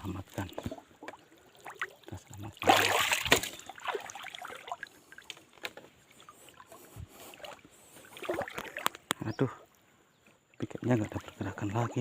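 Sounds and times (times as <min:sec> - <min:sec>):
water splashing: 0:00.0 - 0:09.2, 0:10.6 - 0:12.0.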